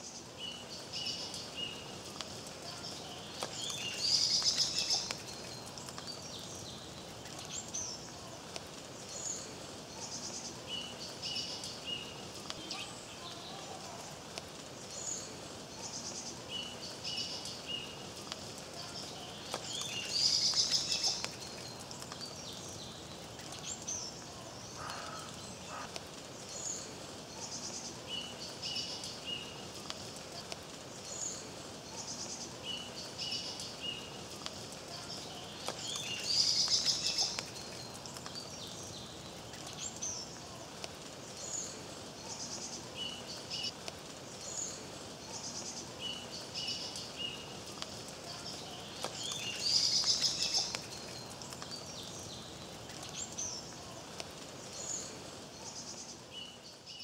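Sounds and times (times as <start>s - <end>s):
rain hiss: 0.0s - 57.0s
songbirds singing: 0.0s - 57.0s.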